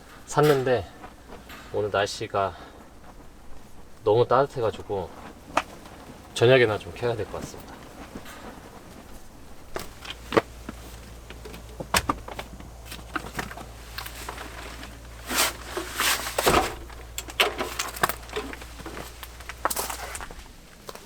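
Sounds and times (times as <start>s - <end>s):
clicks and light knocks: 0.0s - 21.0s
rustling: 0.0s - 21.0s.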